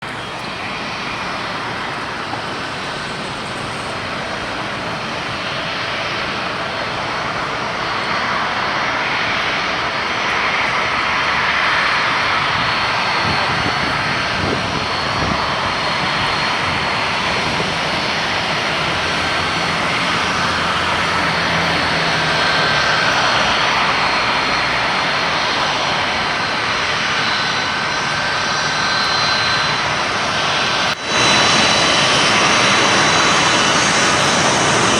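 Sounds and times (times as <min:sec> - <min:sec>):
jet engines rushing: 0:00.0 - 0:34.9.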